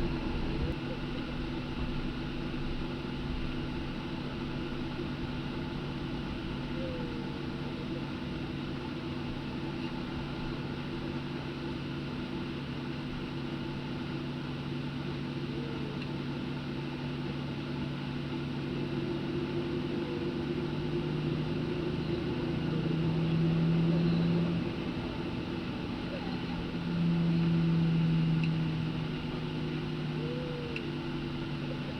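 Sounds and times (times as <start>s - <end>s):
aircraft cabin engine drone: 0.0s - 31.9s.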